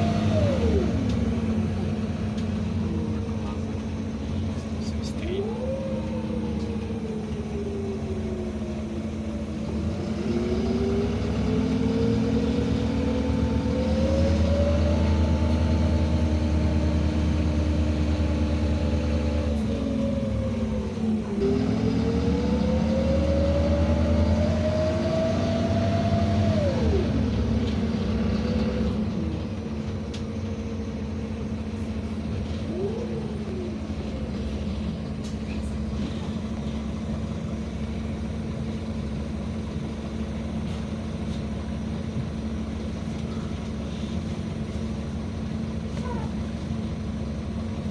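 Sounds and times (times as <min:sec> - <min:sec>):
bus engine and drivetrain whine: 0:00.0 - 0:47.9.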